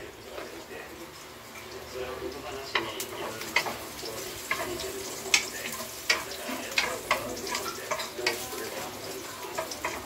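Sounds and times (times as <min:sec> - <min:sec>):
garlic sizzling in hot oil: 0:00.0 - 0:10.0
stirring clicks and scrapes on pan: 0:01.1 - 0:10.0.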